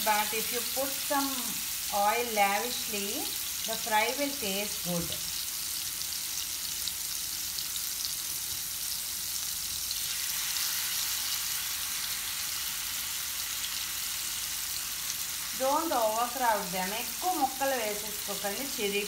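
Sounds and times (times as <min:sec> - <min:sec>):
fish sizzling in oil: 0:00.0 - 0:19.0.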